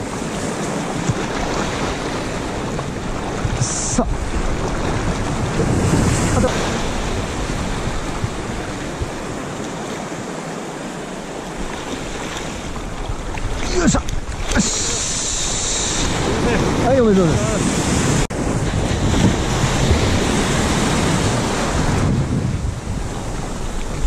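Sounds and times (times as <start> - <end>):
ocean surf washing: 0.0 - 24.0
wind buffeting microphone: 0.0 - 24.0.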